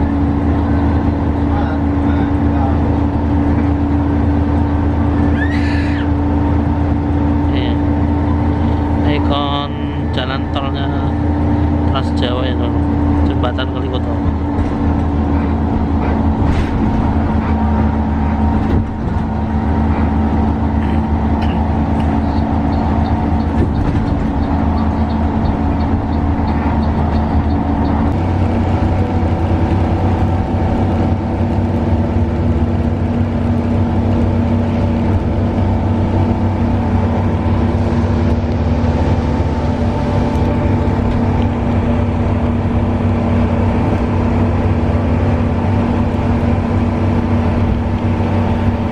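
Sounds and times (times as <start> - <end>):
diesel engine droning: 0.0 - 48.9
road noise: 0.0 - 48.9.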